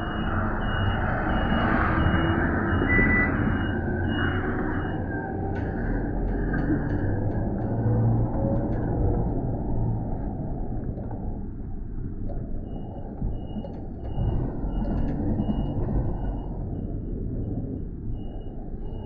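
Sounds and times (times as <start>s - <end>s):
rumble of passing vehicles: 0.0s - 19.0s.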